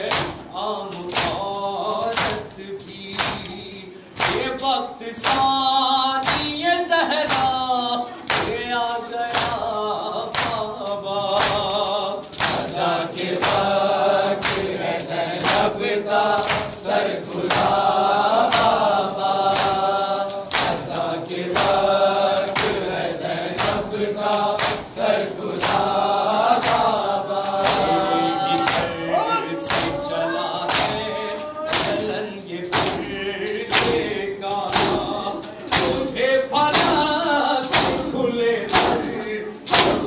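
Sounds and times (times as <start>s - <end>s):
lead reciter on a microphone: 0.0s - 40.0s
men chanting in unison: 0.0s - 40.0s.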